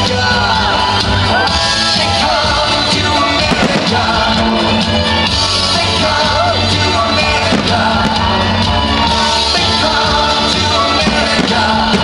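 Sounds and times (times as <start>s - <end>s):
loud music: 0.0s - 12.0s.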